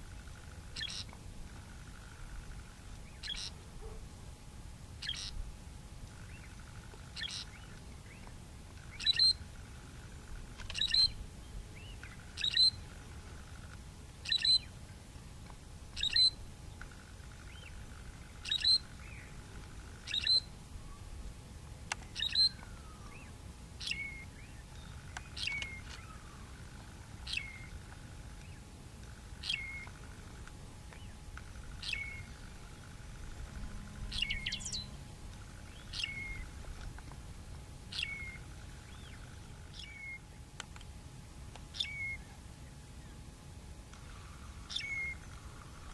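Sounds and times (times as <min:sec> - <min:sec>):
bird calling: 0:00.2 - 0:04.0, 0:05.0 - 0:05.4, 0:06.1 - 0:14.7, 0:15.9 - 0:21.1, 0:22.0 - 0:37.1, 0:37.9 - 0:40.4, 0:41.7 - 0:43.2, 0:44.0 - 0:45.9.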